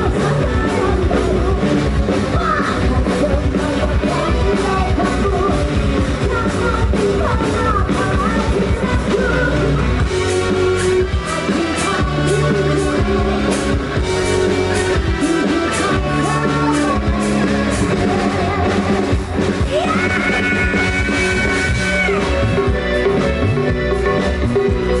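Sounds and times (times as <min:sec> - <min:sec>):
drum kit beating: 0:00.0 - 0:25.0
live rock band playing: 0:00.0 - 0:25.0
person singing: 0:00.0 - 0:25.0.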